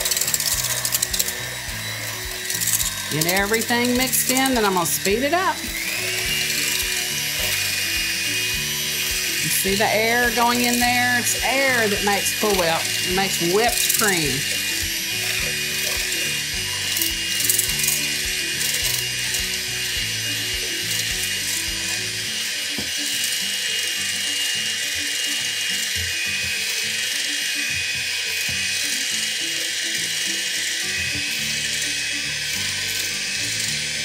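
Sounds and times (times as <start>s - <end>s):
electric hand mixer whine: 0.0s - 34.0s
whisk churning liquid cream: 0.0s - 34.0s.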